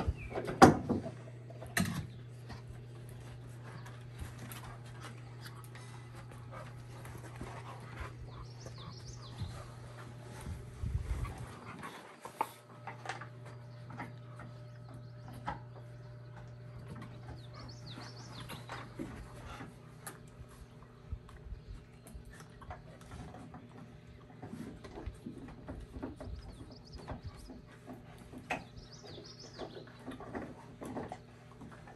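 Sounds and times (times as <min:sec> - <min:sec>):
birds chirping: 0:00.0 - 0:31.8
steady low hum: 0:00.0 - 0:31.9
dogs panting: 0:02.4 - 0:15.2, 0:16.4 - 0:31.9.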